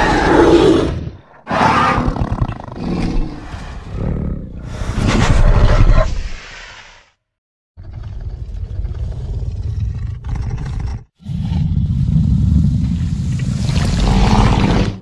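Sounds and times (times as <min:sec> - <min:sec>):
dinosaur roar: 0:00.0 - 0:06.1, 0:07.8 - 0:15.0.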